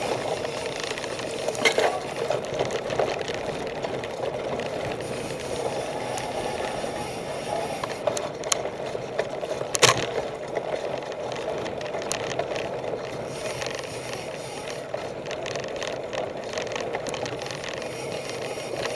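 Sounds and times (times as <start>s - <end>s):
bike rattling and clicking: 0.0s - 18.9s
bike tyres on dirt trail: 0.0s - 18.9s.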